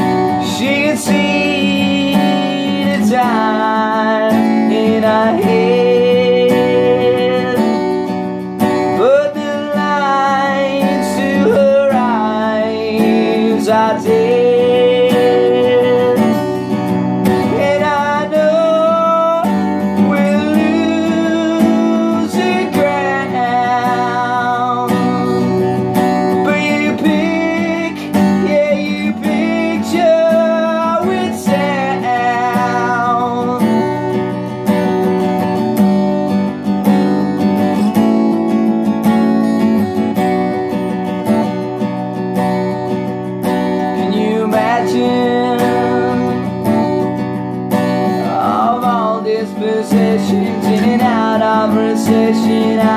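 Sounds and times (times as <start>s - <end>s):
man singing: 0.0s - 8.1s, 8.8s - 35.1s, 43.8s - 47.2s, 47.9s - 52.9s
acoustic guitar strumming: 0.0s - 52.9s.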